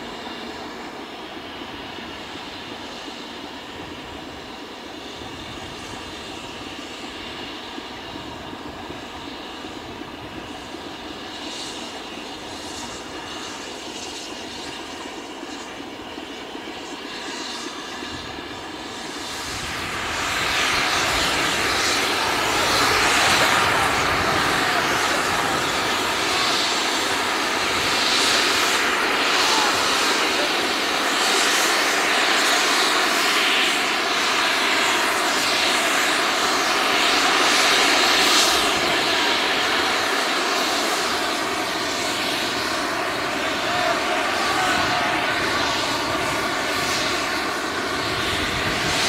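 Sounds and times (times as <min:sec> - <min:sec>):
steam hissing from locomotive: 0:00.0 - 0:49.0.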